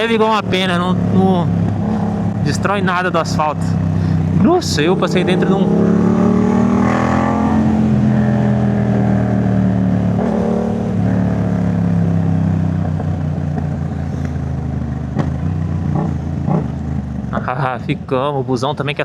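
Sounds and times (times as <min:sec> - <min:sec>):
motorcycle engine revving: 0:00.0 - 0:18.3.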